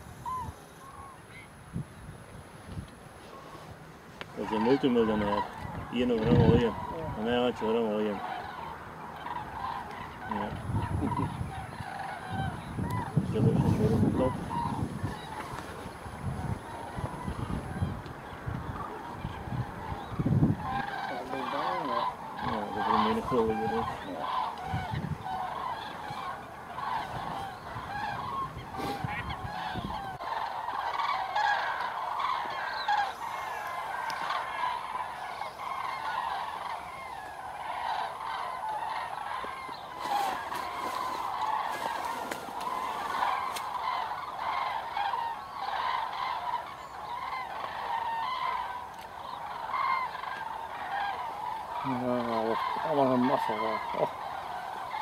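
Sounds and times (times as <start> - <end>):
flock of cranes trumpeting: 0.0 - 1.7, 2.3 - 55.0.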